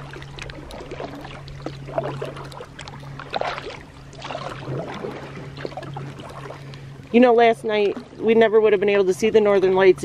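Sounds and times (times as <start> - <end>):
paddle splashing water: 0.0 - 9.0
steady low hum: 0.0 - 10.0.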